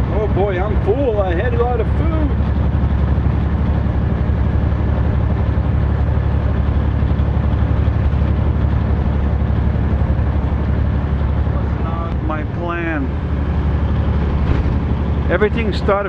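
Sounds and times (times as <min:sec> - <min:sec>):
diesel truck engine drone: 0:00.0 - 0:16.0
road noise: 0:00.0 - 0:16.0.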